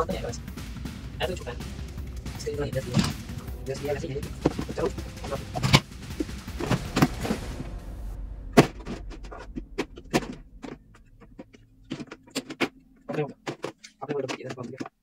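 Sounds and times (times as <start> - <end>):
noisy background: 0.0 - 14.9.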